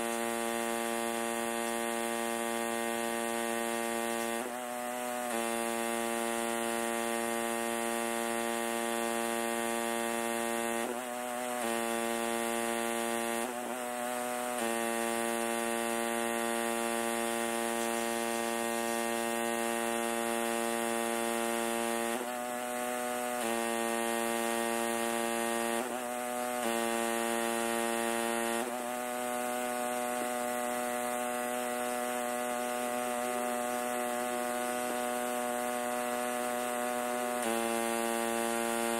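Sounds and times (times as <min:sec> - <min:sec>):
pressure washer running: 0:00.0 - 0:38.9.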